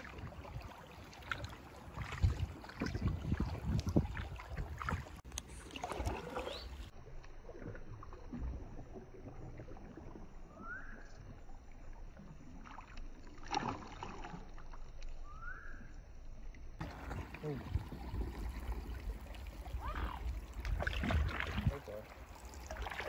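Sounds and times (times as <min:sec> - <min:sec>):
kayak paddle splashing water: 0:00.0 - 0:15.6, 0:16.8 - 0:23.0.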